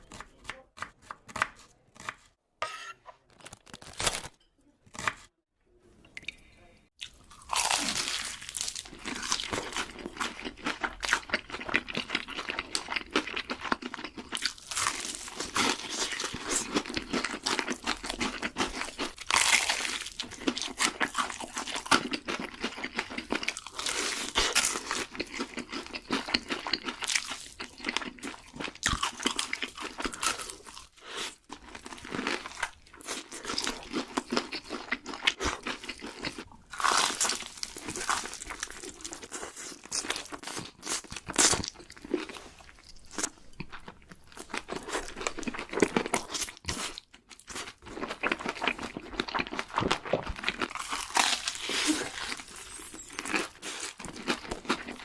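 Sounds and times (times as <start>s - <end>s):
crunching fried chicken: 7.0s - 55.0s.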